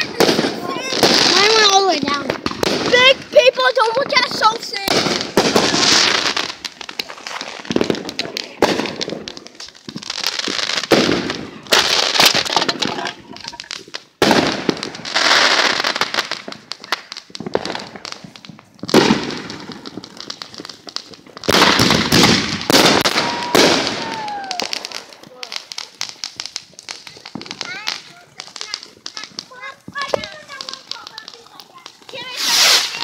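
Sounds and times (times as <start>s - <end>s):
fireworks crackling pops: 0.0s - 33.0s.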